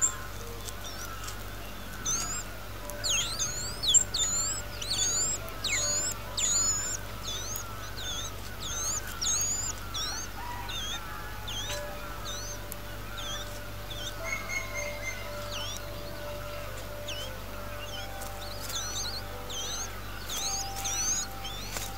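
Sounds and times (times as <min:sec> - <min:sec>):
birds whistling high notes: 0:00.0 - 0:21.9
low bird chatter: 0:00.0 - 0:21.9.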